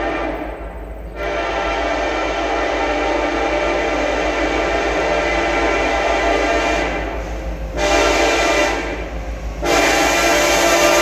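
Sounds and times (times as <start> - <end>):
locomotive air horn blasts: 0.0 - 7.2, 7.8 - 11.0
train rumbling: 0.0 - 11.0.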